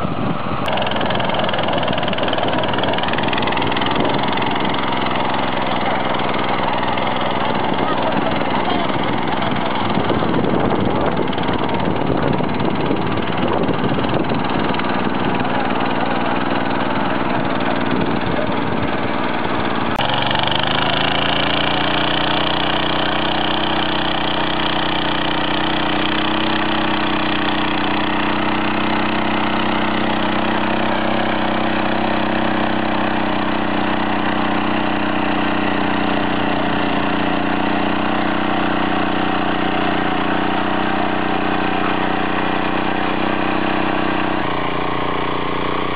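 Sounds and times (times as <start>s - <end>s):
power weeder engine running: 0.0s - 45.9s.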